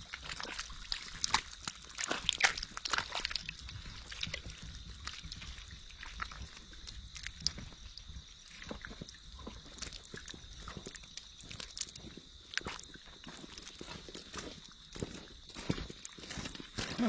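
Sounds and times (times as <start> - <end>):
splashing in shallow water: 0.0 - 17.0.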